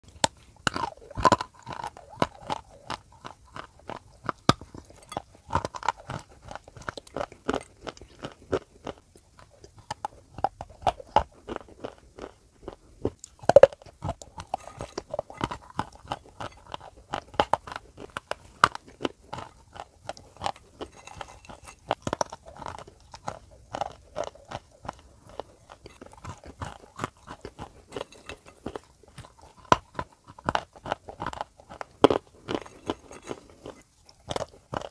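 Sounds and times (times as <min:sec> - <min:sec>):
clay chunks crunching in mouth: 0:00.0 - 0:34.9.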